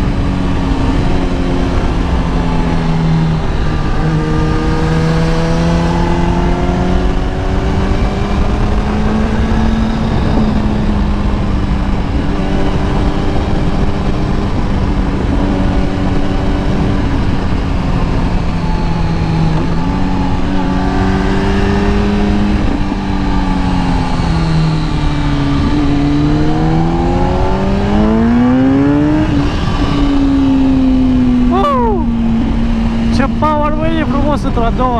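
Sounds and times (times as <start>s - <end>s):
motorcycle engine revving: 0.0s - 34.9s
rush of noise: 0.0s - 34.9s.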